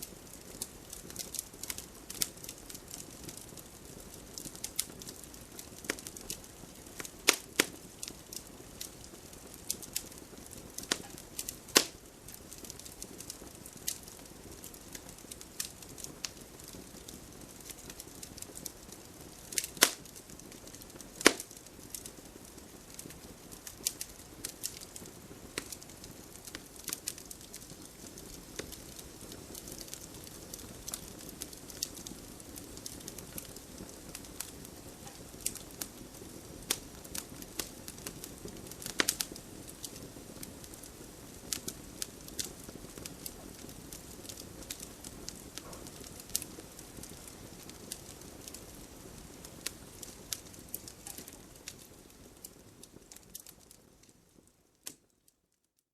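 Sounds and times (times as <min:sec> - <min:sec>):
campfire crackling and popping: 0:00.0 - 0:55.2.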